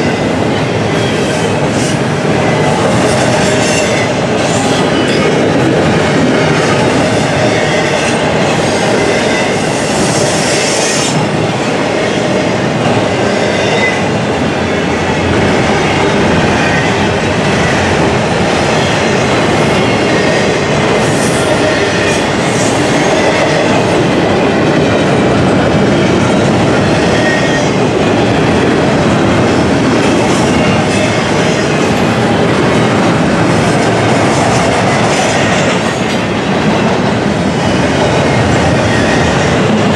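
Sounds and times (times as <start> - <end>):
freight train wheels on rail: 0.0 - 39.9.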